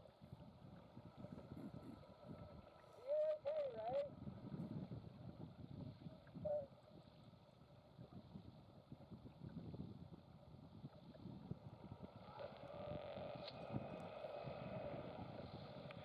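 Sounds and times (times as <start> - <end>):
wind buffeting microphone: 0.0 - 3.0, 4.1 - 16.0
water noise from sailing boat: 0.0 - 16.0.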